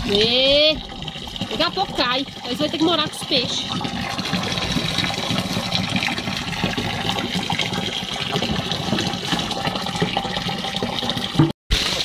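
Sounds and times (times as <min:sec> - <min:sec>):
water gushing and splashing: 0:00.0 - 0:12.0.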